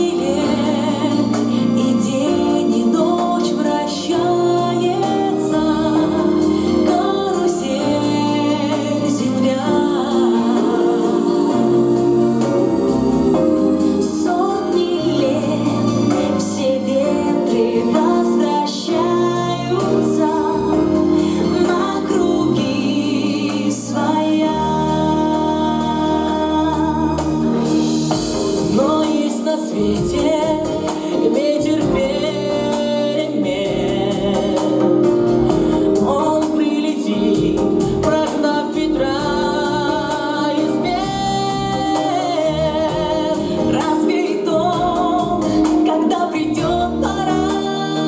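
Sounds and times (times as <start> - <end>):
instrumental accompaniment with bass: 0.0 - 48.0
voices singing: 0.0 - 48.0.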